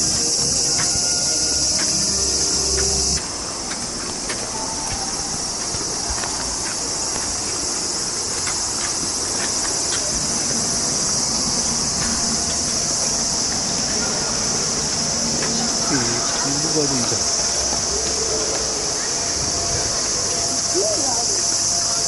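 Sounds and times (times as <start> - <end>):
footsteps on stone paving: 0.0 - 21.5
cicadas shrilling: 0.0 - 22.0.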